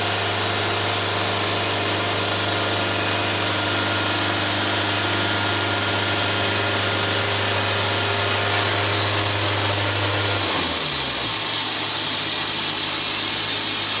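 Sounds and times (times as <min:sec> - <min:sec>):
sawmill engine hum: 0:00.0 - 0:14.0
sawmill high hiss: 0:00.0 - 0:14.0.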